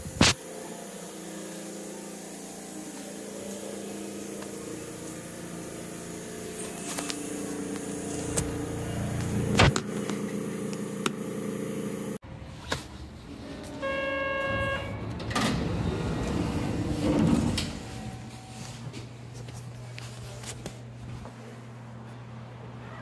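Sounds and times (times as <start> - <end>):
train cabin mechanical hum: 0.0 - 23.0.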